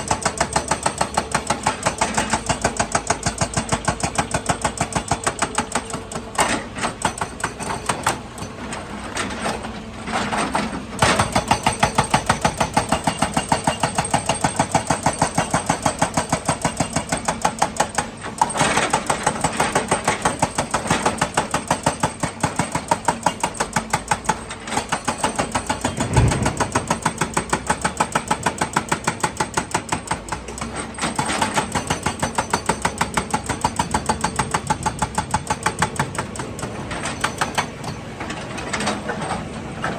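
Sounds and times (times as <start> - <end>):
excavator mechanical clatter: 0.0 - 39.9.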